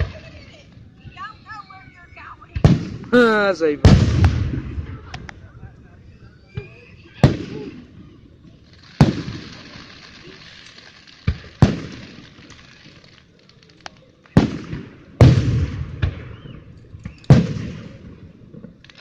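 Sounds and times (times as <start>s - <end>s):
fireworks bangs with echo: 2.5s - 5.3s, 6.5s - 19.0s.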